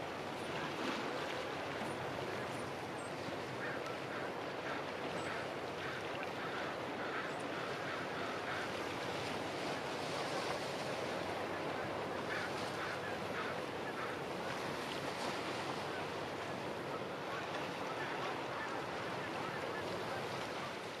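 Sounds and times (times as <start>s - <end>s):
small waves washing: 0.0s - 21.0s
wind: 0.0s - 21.0s.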